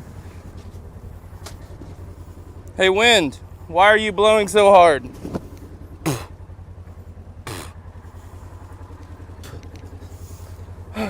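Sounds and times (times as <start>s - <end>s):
engine idling with pulsing throb: 0.0s - 11.0s.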